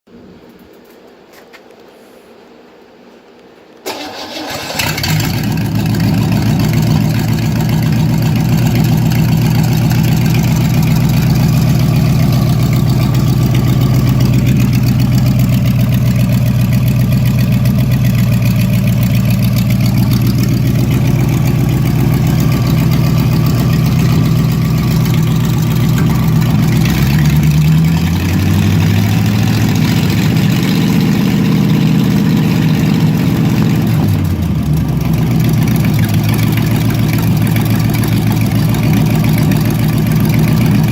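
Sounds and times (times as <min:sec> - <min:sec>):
car engine running: 0:03.9 - 0:40.9.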